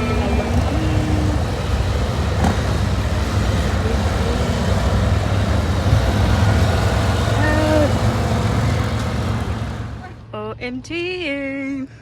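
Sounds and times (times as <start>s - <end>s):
vehicle engine running: 0.0s - 10.5s.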